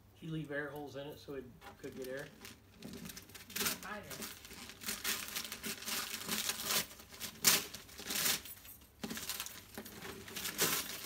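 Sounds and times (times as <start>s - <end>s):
wrapping paper crinkling and tearing: 1.7s - 11.0s.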